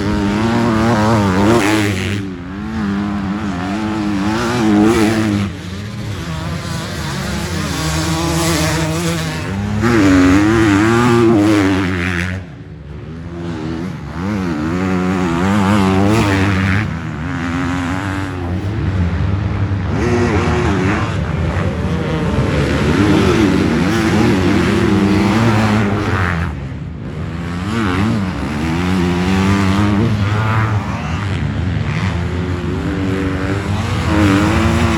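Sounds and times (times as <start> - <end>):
motocross bike engines revving: 0.0 - 34.9.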